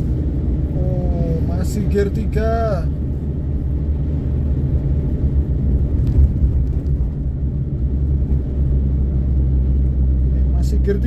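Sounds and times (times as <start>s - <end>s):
car engine droning under load: 0.0s - 11.0s
road rumble: 0.0s - 11.0s.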